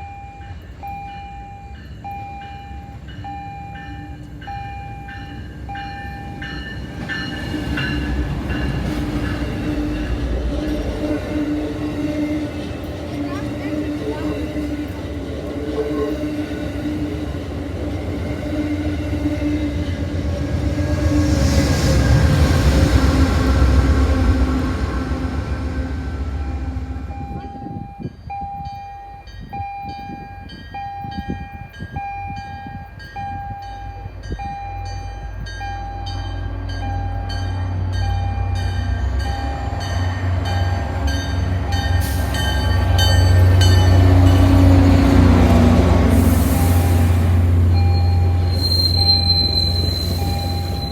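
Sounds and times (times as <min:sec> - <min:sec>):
railroad crossing bell: 0:00.0 - 0:20.3, 0:24.0 - 0:46.9, 0:47.5 - 0:50.9
low train rumble: 0:00.0 - 0:50.9
train running past: 0:00.0 - 0:50.9.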